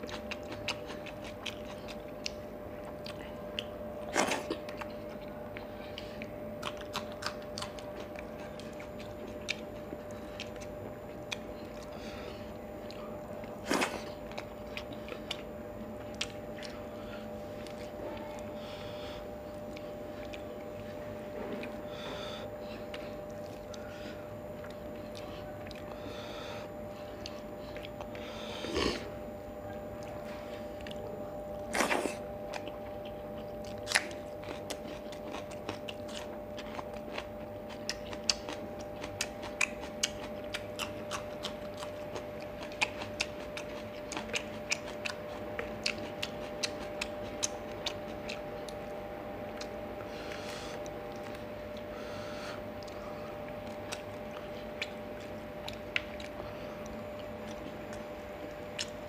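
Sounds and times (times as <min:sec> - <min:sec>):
person chewing food: 0:00.0 - 0:29.3, 0:29.9 - 0:59.0
faint steady hum: 0:00.0 - 0:59.0.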